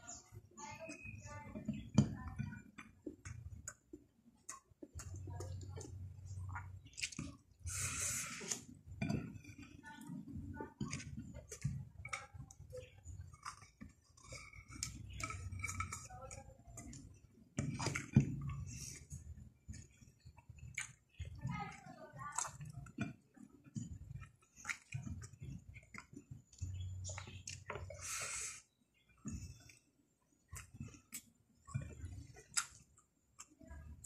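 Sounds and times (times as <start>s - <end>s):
person chewing: 3.1s - 21.4s, 22.3s - 34.0s.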